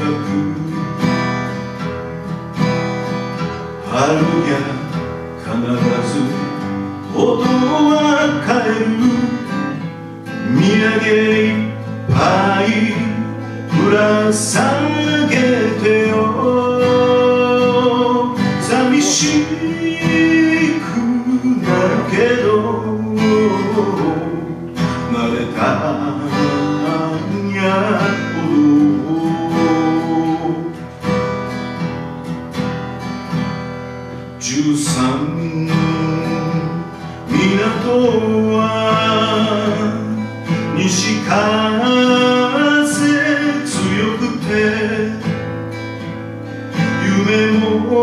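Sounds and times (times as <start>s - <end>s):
man singing: 0.0s - 1.8s, 3.4s - 31.0s, 34.2s - 48.0s
acoustic guitar strumming: 0.0s - 48.0s.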